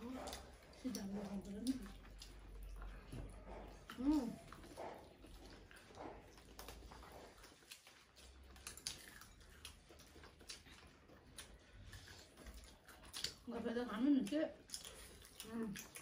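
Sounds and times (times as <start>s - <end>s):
people chewing and eating: 0.0s - 16.0s.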